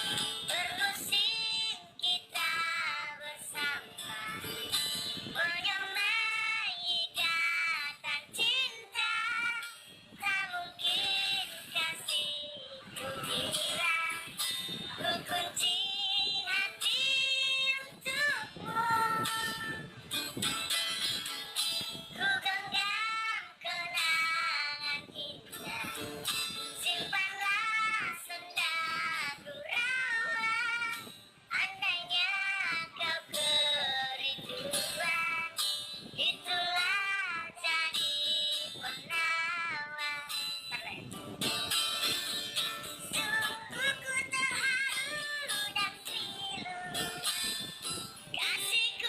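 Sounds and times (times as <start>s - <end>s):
high-pitched singing voice: 0.0s - 49.0s.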